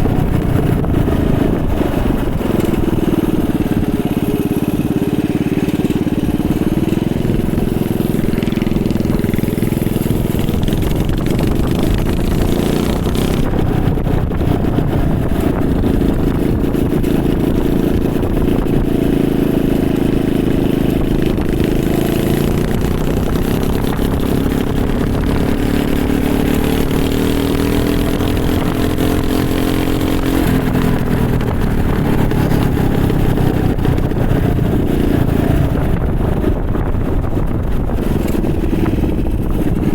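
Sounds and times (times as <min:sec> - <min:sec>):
small engine revving: 0:00.0 - 0:39.9.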